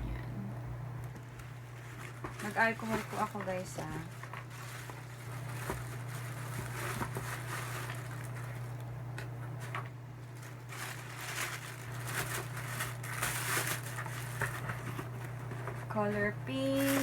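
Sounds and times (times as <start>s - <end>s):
steady low hum: 0.0s - 17.0s
packaging rustling and crinkling: 1.0s - 17.0s.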